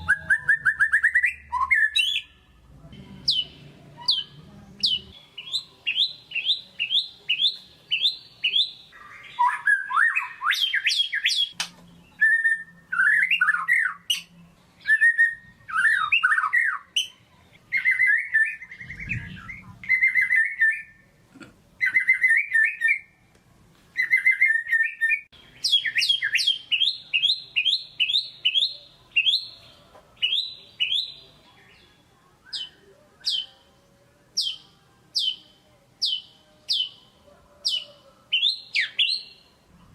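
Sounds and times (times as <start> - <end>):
songbird singing varied song: 3.2 - 21.0, 24.0 - 39.6.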